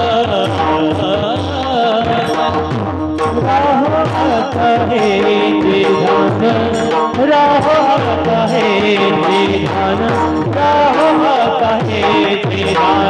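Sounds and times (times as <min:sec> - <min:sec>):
drum strokes: 0:00.0 - 0:13.0
person singing devotional song: 0:00.0 - 0:13.0.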